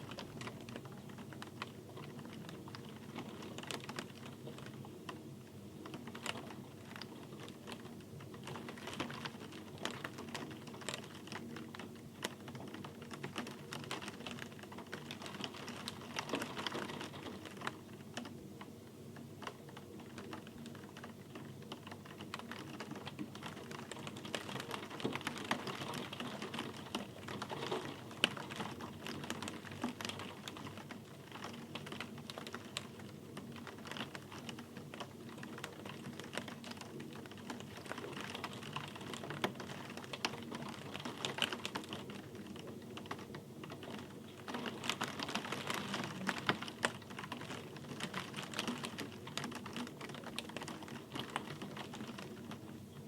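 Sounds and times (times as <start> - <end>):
steady rain on hard surfaces: 0.0 - 53.0.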